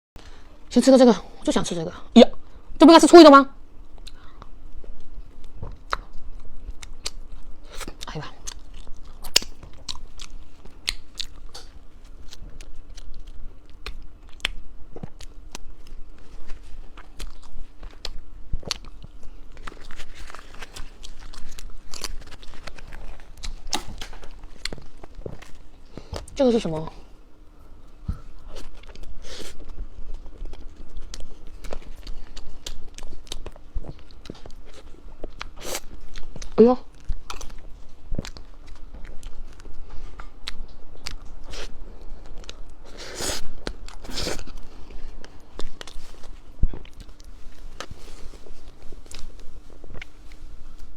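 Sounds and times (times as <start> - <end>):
crisp food crunching: 4.8 - 26.3, 28.4 - 50.8.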